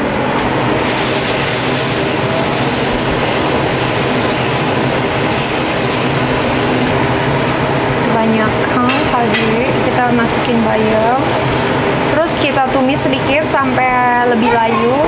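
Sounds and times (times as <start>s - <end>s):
food frying in a pan: 0.2s - 7.0s, 7.9s - 14.2s.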